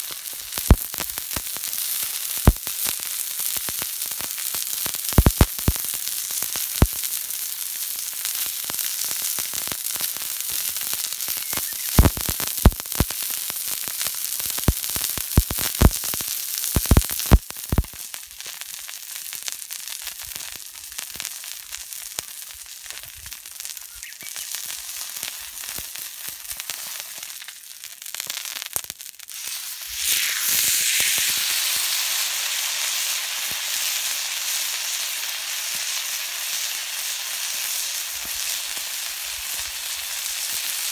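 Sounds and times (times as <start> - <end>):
steak sizzling on a griddle: 0.0 - 40.9.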